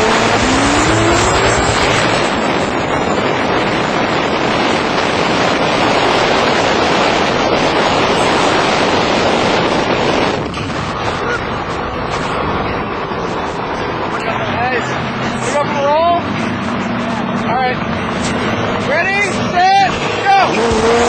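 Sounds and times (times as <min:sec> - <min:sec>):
vehicle road noise at speed: 0:00.0 - 0:21.0
wind noise: 0:00.0 - 0:21.0.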